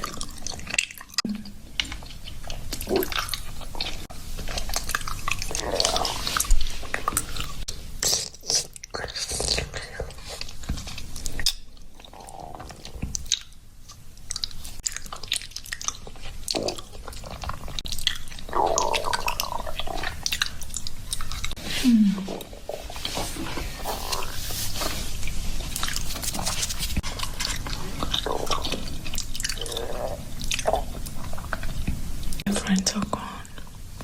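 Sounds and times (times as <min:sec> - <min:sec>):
stomach gurgling: 0:00.0 - 0:13.6, 0:14.2 - 0:34.0.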